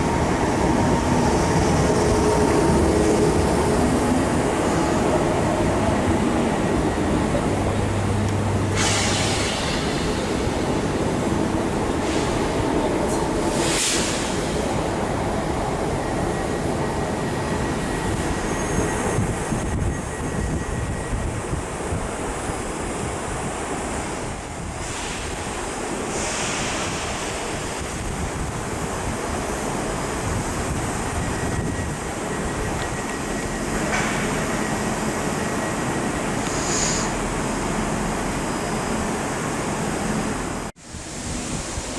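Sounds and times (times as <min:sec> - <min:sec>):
train rumble and hiss: 0:00.0 - 0:41.9.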